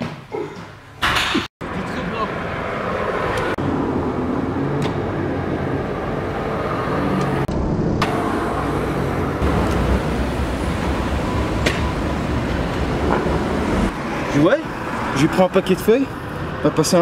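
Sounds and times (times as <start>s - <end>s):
city street traffic: 1.0s - 17.0s.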